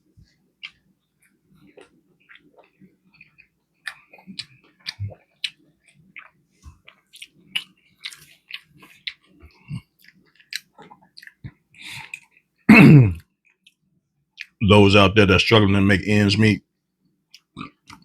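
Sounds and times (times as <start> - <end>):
close chewing with mouth clicks: 0.2 - 12.6, 13.2 - 14.6, 17.3 - 18.0.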